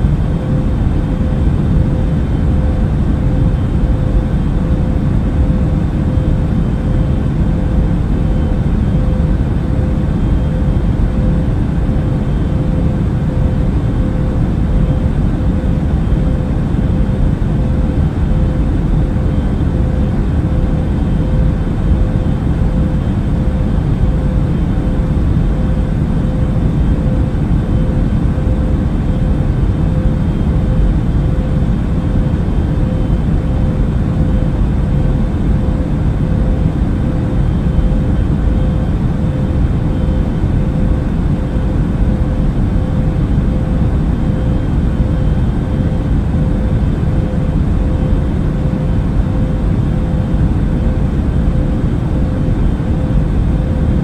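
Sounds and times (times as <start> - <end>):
airplane engines and rushing air: 0.0 - 54.0
steady hum: 0.0 - 54.0.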